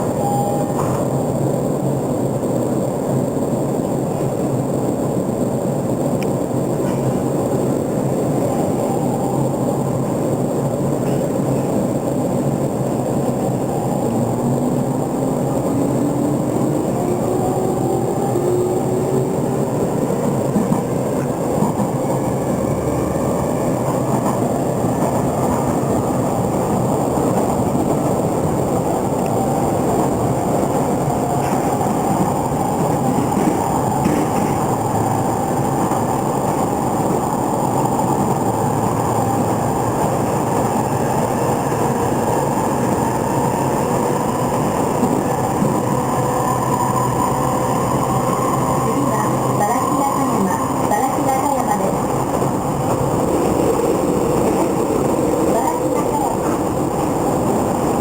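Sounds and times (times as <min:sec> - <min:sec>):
train wheels rumbling on rails: 0:00.0 - 0:58.0
traction motor whine: 0:06.0 - 0:58.0.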